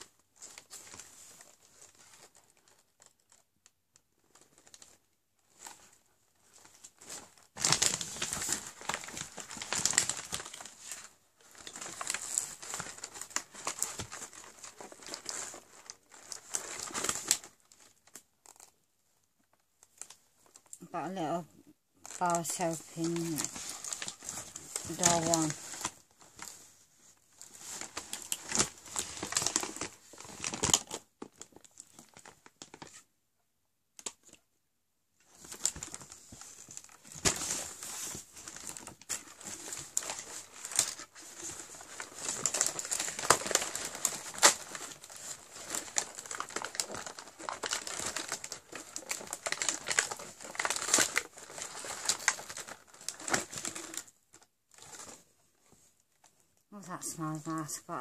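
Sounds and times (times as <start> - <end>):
plastic and cardboard crinkling: 0.0 - 33.1, 35.2 - 58.0.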